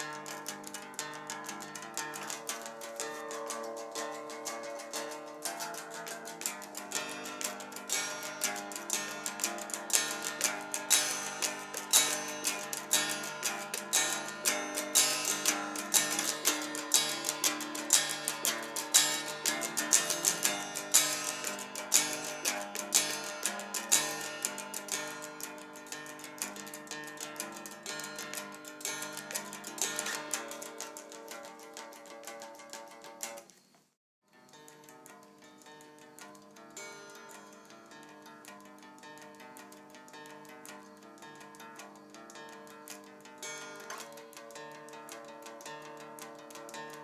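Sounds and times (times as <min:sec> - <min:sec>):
rapidly plucked guitar riff: 0:00.0 - 0:33.4, 0:34.3 - 0:47.0.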